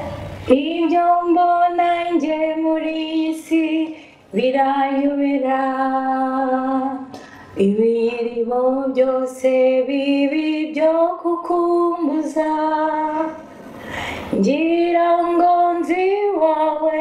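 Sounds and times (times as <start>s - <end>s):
woman singing unaccompanied: 0.0s - 13.5s, 14.3s - 17.0s.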